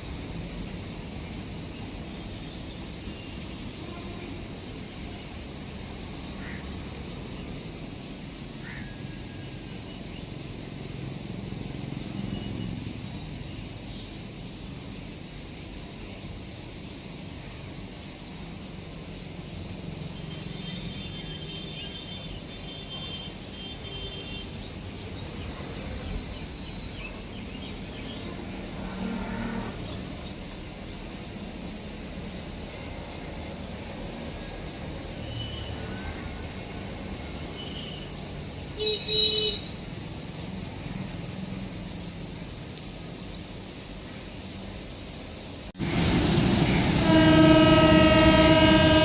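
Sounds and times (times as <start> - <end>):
train rumble and hiss: 0.0 - 49.0.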